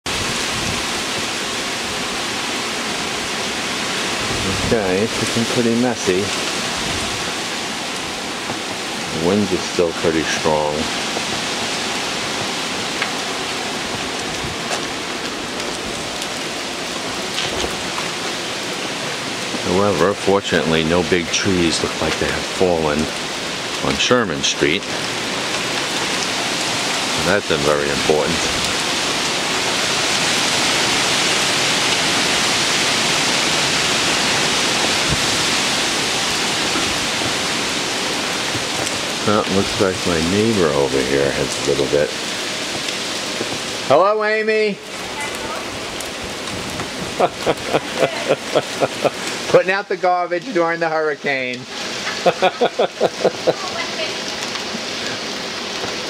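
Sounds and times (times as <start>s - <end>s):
heavy rain hissing on street: 0.0s - 56.0s.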